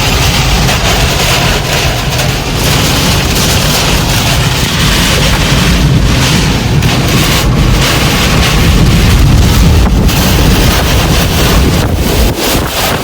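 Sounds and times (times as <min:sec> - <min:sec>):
strong wind battering a car: 0:00.0 - 0:13.0
wind rumble on microphone: 0:00.0 - 0:13.0.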